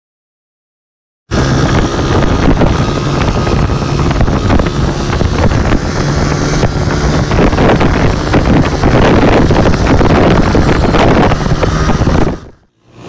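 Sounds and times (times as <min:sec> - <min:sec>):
small motorcycle engine running: 0:01.3 - 0:13.0
wind noise on microphone: 0:01.3 - 0:13.0.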